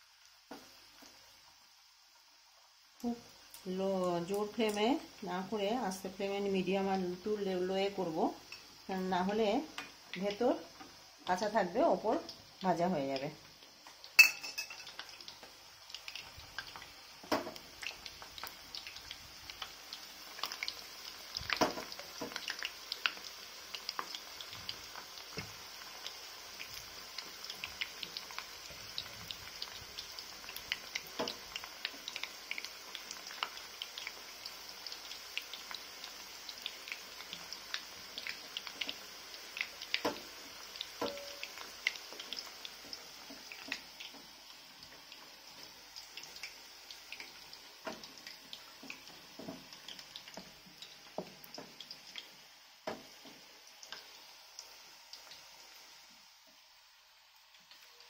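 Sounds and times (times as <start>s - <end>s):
chicken sizzling in hot oil: 0.0s - 58.0s.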